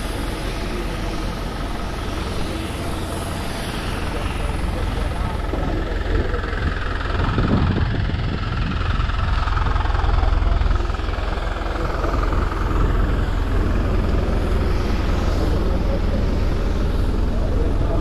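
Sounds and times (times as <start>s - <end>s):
aircraft and vehicle engines rumbling: 0.0s - 18.0s.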